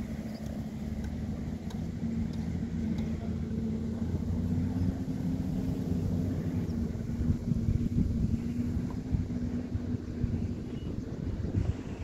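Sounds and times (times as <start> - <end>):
low motor hum: 0.0 - 12.0
wind rumble on microphone: 0.0 - 12.0.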